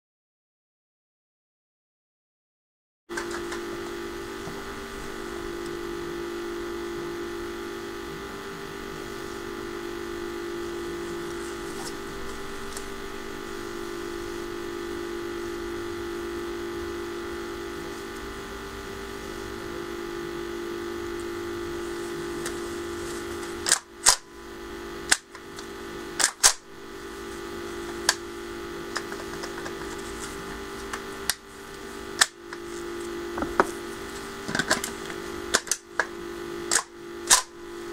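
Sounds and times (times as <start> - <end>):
steady hum: 3.1 - 37.9.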